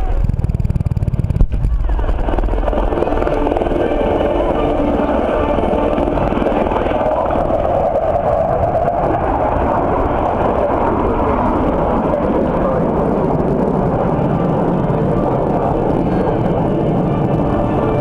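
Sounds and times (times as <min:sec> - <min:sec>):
aircraft engine noise: 0:00.0 - 0:18.0.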